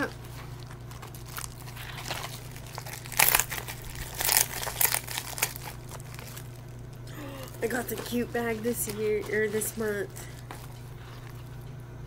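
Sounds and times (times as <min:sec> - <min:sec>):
bubble mailer crinkling and ripping: 0:00.0 - 0:11.6.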